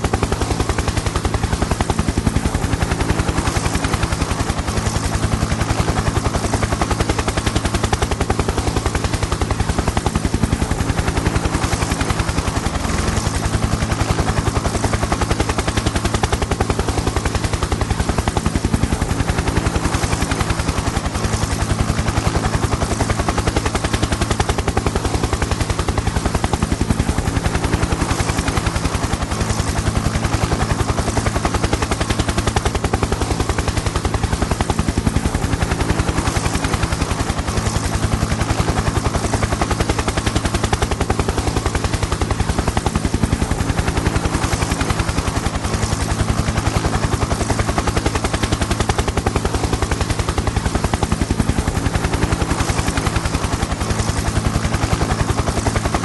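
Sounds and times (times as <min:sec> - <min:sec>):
helicopter engine hum: 0:00.0 - 0:56.0
helicopter rotor blades chopping: 0:00.0 - 0:56.0.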